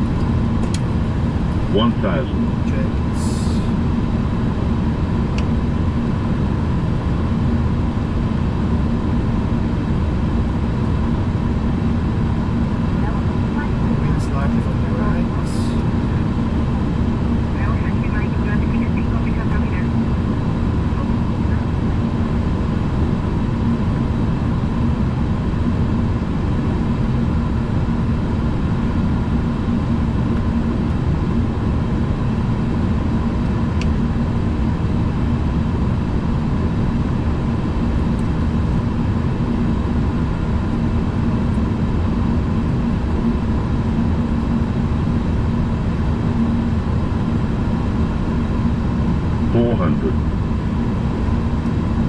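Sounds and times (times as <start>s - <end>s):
cockpit airflow and engine hum: 0.0s - 52.0s.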